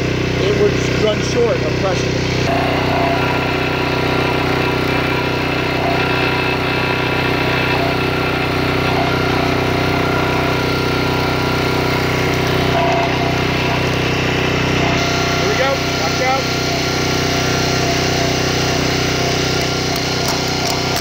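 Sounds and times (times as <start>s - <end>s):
small engine running steadily: 0.0s - 21.0s.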